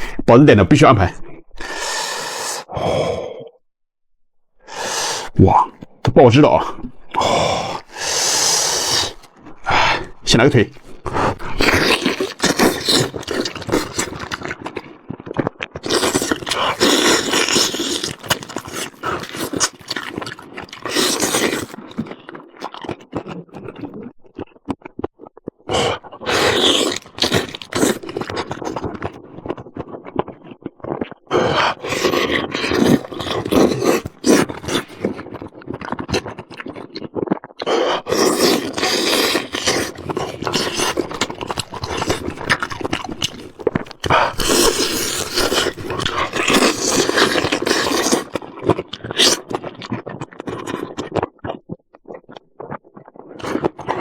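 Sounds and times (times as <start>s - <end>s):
person chewing meat: 0.0s - 0.2s, 1.2s - 3.4s, 4.6s - 54.0s.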